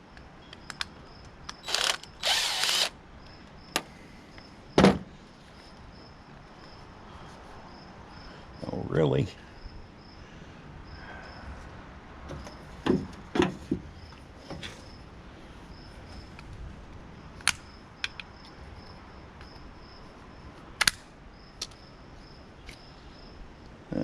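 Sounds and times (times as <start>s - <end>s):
high cricket chirp: 0.0s - 24.0s.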